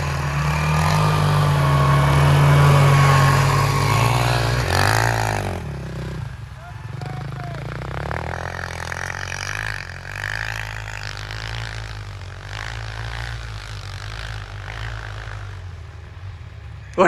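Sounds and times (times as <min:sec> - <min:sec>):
quad engine revving: 0:00.0 - 0:15.6.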